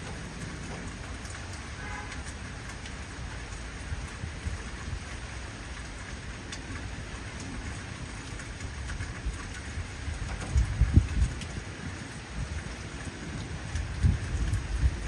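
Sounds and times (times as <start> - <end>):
heavy rain falling: 0.0 - 15.0
low rumble of thunder: 0.0 - 15.0
sharp raindrop hits: 0.0 - 15.0.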